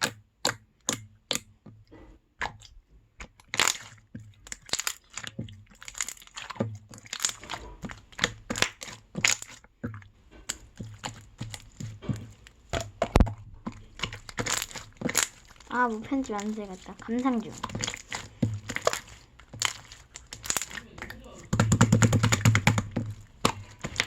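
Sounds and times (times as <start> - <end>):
slime popping and crackling: 0.0 - 1.6, 2.3 - 24.0.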